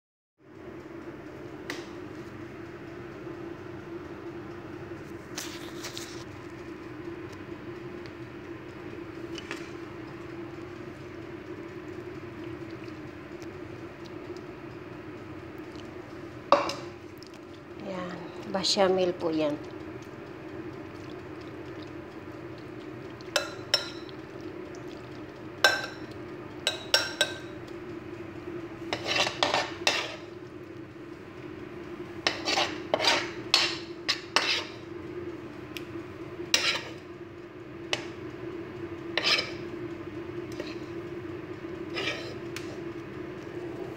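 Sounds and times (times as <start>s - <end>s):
low mechanical hum: 0.4s - 43.9s.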